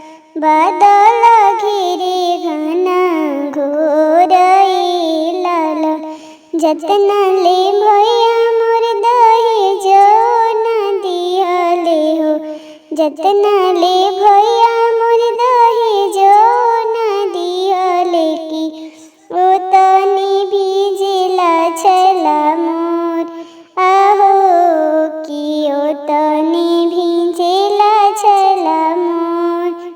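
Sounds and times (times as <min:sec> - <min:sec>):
woman singing: 0:00.0 - 0:29.9.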